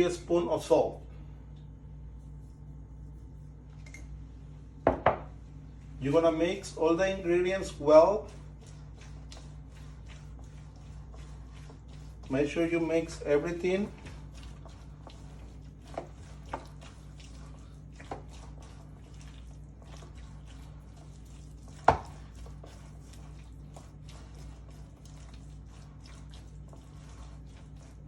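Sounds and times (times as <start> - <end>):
utensil stirring in a bowl: 0.0 - 28.0.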